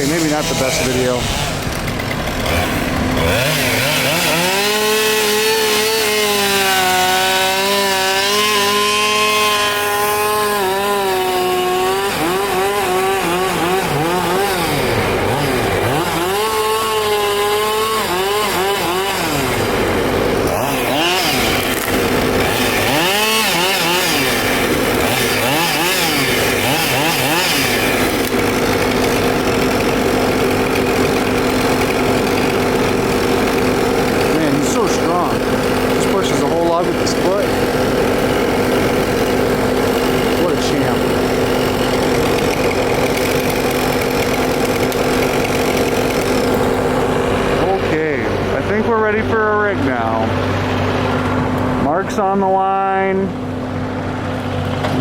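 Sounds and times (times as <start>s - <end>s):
chainsaw cutting and revving: 0.0s - 55.0s.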